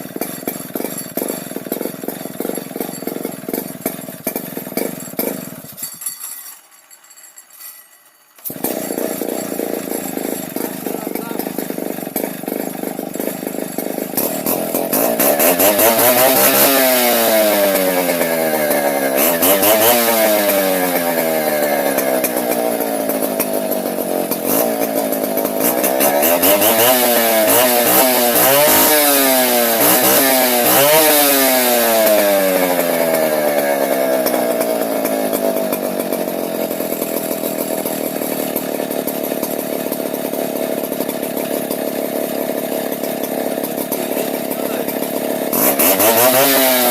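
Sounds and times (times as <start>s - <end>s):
chainsaw engine revving and idling: 0.0s - 7.0s, 7.6s - 46.9s.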